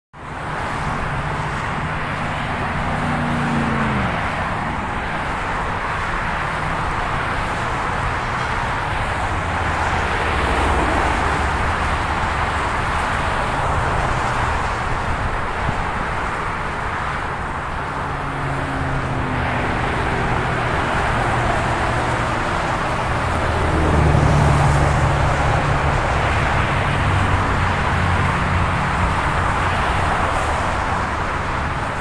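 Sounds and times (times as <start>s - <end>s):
vehicle engine hum: 0.2s - 32.0s.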